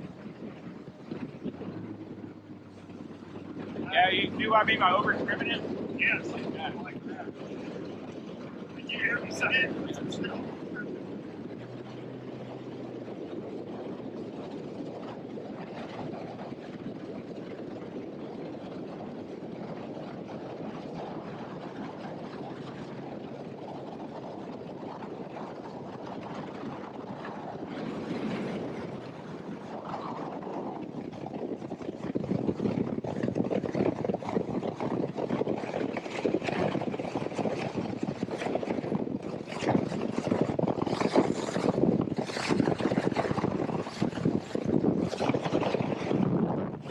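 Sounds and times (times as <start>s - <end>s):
outboard motor running: 0.0s - 46.9s
rush of wind and water: 0.0s - 46.9s.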